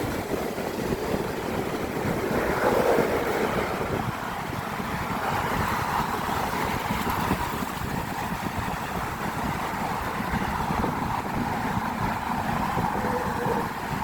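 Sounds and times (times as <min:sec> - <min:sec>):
traffic on road bridge: 0:00.0 - 0:14.0
vehicle passing close: 0:01.8 - 0:14.0.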